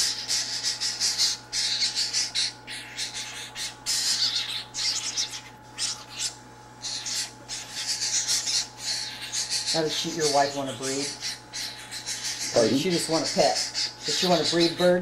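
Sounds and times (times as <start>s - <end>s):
chicks begging with harsh rasps: 0.0s - 15.0s.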